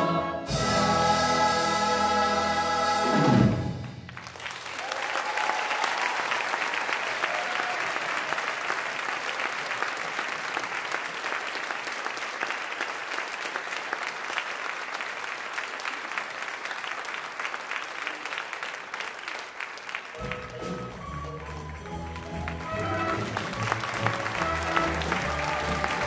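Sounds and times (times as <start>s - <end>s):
audience applauding: 3.9s - 26.0s.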